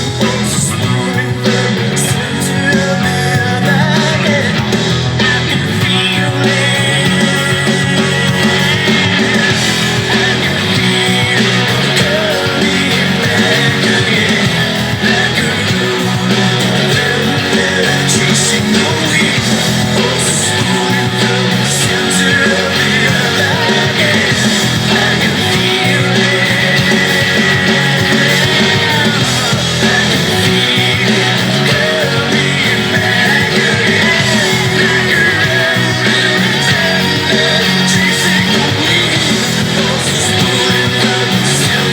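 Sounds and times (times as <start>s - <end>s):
electric guitar: 0.0s - 41.9s
rock music with singing: 0.0s - 41.9s.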